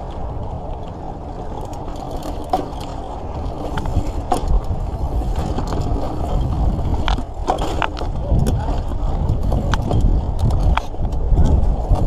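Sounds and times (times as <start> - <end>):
bike clicks and rattles: 0.0 - 12.0
bike tyre rumble: 0.0 - 12.0
wind on microphone: 0.0 - 12.0.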